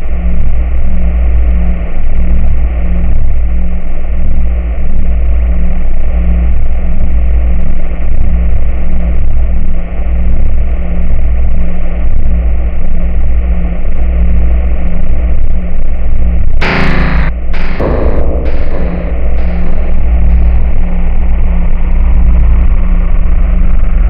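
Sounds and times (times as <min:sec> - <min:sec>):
pulsing low rumble: 0:00.0 - 0:24.0.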